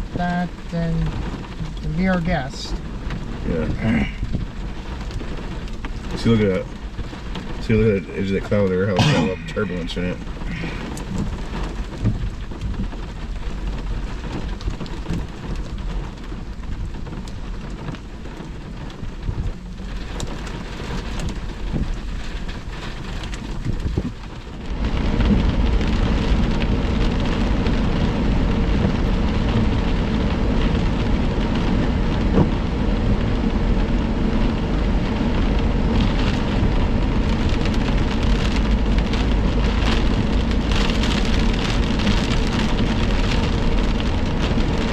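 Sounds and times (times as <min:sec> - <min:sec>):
heavy rain pouring: 0:00.0 - 0:44.9
thunder rumbling: 0:00.0 - 0:44.9.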